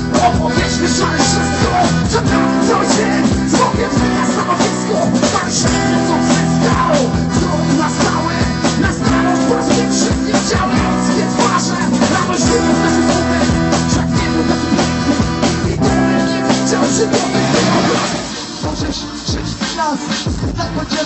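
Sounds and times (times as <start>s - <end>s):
accordion: 0.0s - 21.0s
drum kit beat: 0.0s - 21.0s
electric guitars: 0.0s - 21.0s
person singing: 0.0s - 21.0s.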